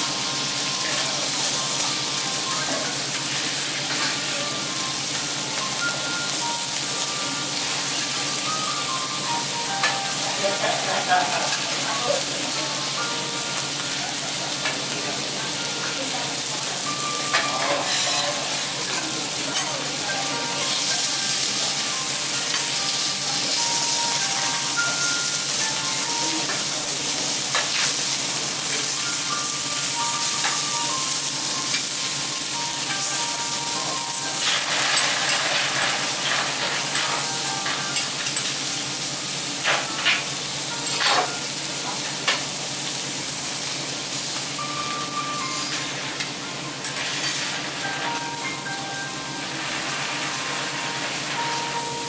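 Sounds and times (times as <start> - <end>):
food sizzling on griddle: 0.0 - 52.0.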